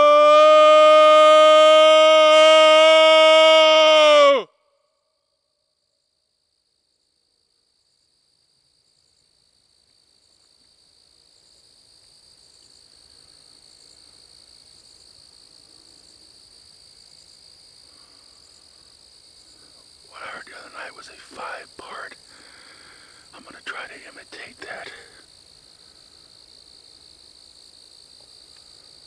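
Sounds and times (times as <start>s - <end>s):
night insects trilling: 0.0s - 4.5s, 5.6s - 29.0s.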